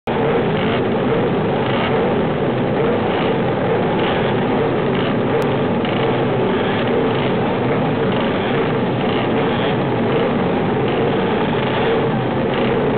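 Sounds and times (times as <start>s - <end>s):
racing motorcycle engines running: 0.1s - 12.9s.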